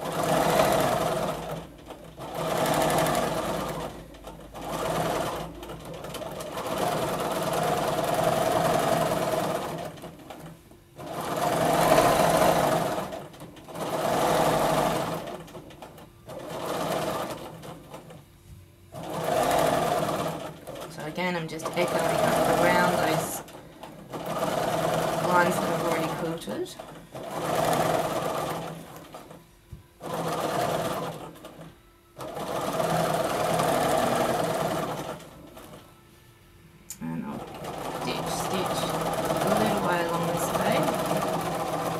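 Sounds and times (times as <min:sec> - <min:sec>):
sewing machine running: 0:00.0 - 0:18.2, 0:18.9 - 0:29.4, 0:30.0 - 0:36.0, 0:37.2 - 0:41.9.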